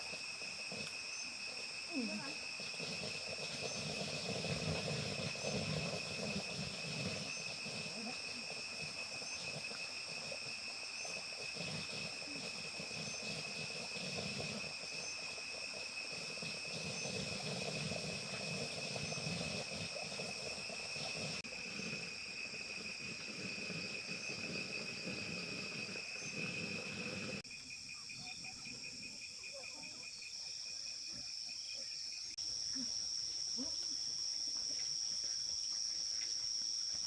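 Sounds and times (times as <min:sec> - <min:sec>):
insect chorus trilling: 0:00.0 - 0:37.0.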